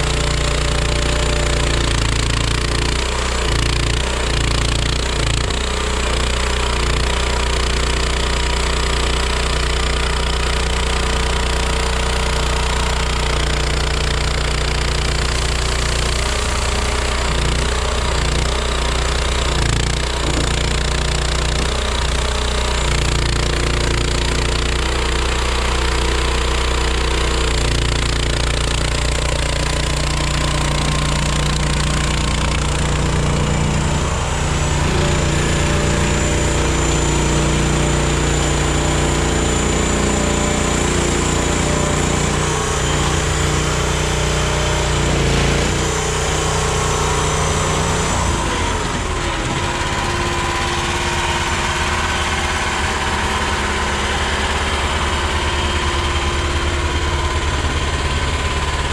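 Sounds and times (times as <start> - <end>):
skid steer engine running: 0.0 - 58.9.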